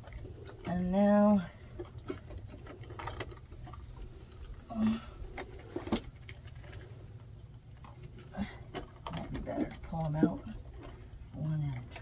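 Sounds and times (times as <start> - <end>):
wires clicking and rustling: 0.0 - 12.0.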